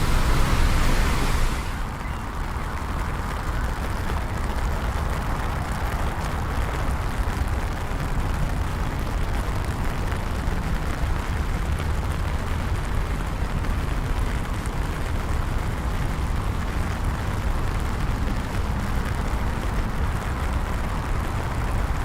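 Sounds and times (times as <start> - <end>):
city traffic rumble: 0.0 - 22.0
steady rain: 0.0 - 22.0.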